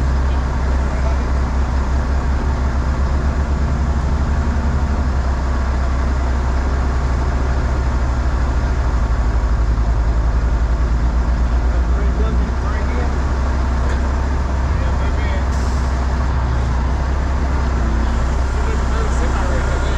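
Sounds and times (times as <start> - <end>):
diesel truck engine droning: 0.0 - 19.9.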